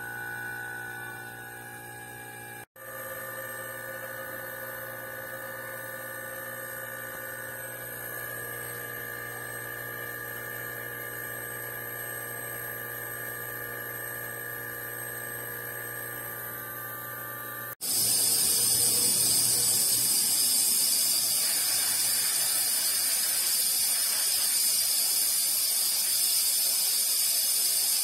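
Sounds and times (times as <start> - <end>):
compressor humming: 0.0 - 28.0.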